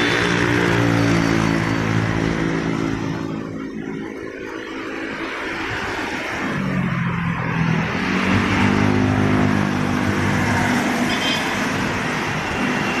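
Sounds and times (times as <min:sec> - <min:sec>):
car passing: 0:00.0 - 0:11.1.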